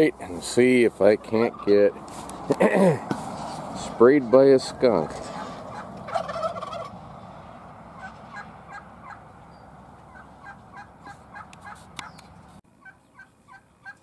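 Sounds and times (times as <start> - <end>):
chickens clucking: 0.0 - 3.6, 4.9 - 7.0, 7.9 - 9.4, 10.0 - 14.0.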